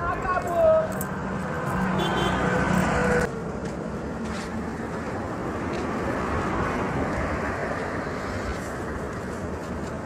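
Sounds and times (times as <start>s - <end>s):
street noise: 0.0s - 10.0s
vehicle engine hum: 0.0s - 10.0s.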